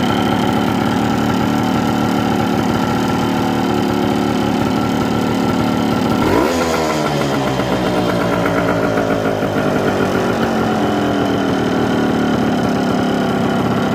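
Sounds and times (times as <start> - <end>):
two-stroke engine idling: 0.0 - 13.9.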